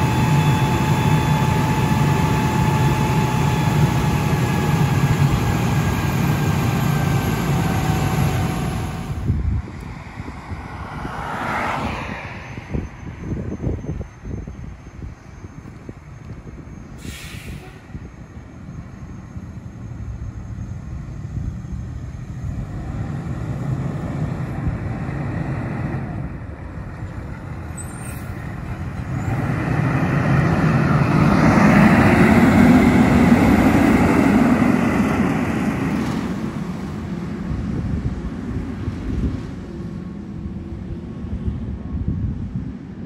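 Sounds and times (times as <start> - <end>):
fire engine diesel engine accelerating: 0.0 - 10.6, 15.6 - 41.8.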